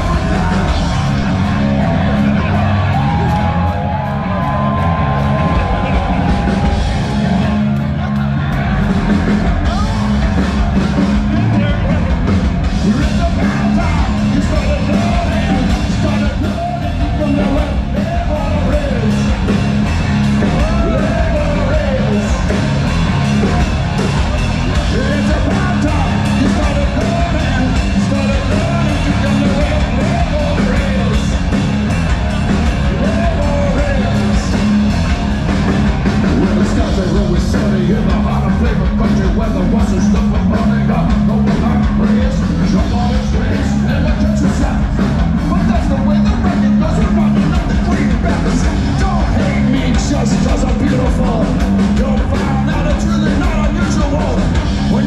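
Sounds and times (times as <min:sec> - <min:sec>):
live hard rock band: 0:00.0 - 0:55.0
singer singing and shouting: 0:00.0 - 0:55.0.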